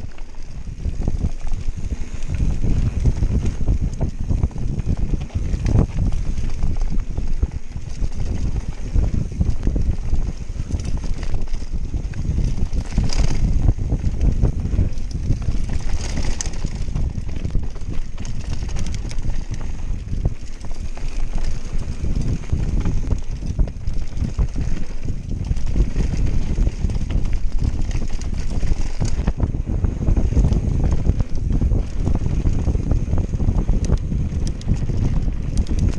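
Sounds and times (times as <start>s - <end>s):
bike rattling over bumps: 0.0s - 35.9s
bike tyres rolling on dirt: 0.0s - 35.9s
wind buffeting microphone: 0.0s - 35.9s.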